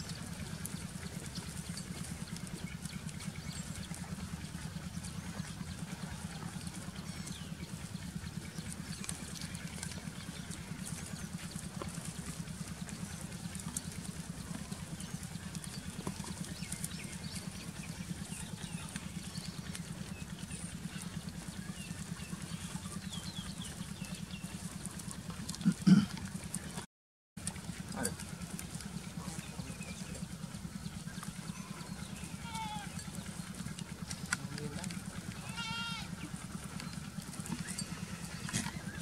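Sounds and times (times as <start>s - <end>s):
small birds chirping: 0.0s - 26.8s, 27.5s - 39.0s
engine running with pulsing throb: 0.0s - 39.0s.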